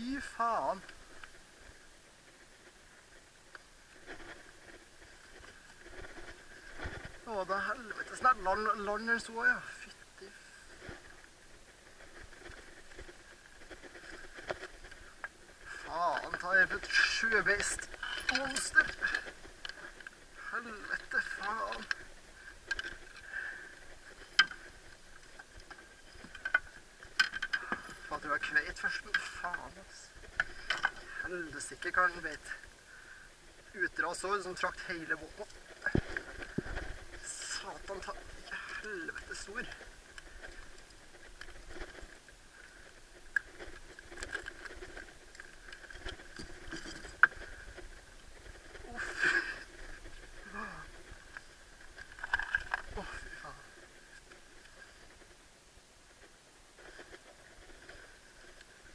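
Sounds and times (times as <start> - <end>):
gear rustling and knocking in boat: 0.0 - 58.9.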